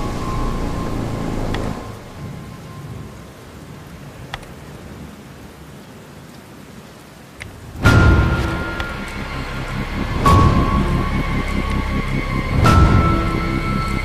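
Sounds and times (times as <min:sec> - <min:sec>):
thunder rumble: 0:00.0 - 0:05.6, 0:07.4 - 0:14.0
rain hissing: 0:00.0 - 0:14.0.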